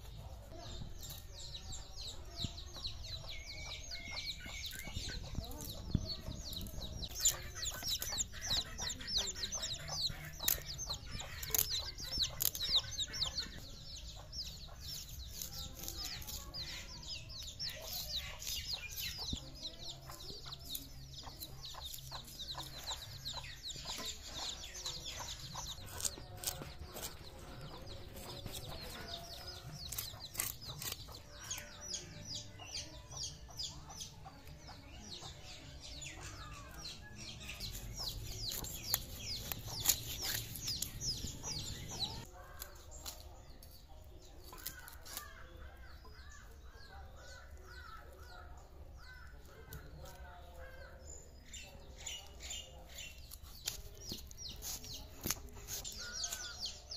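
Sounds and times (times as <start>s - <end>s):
chicks peeping: 0.0s - 56.9s.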